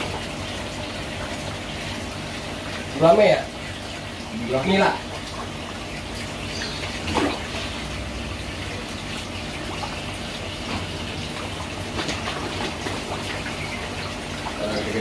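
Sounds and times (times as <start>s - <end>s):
waterfall pouring into pond: 0.0s - 15.0s.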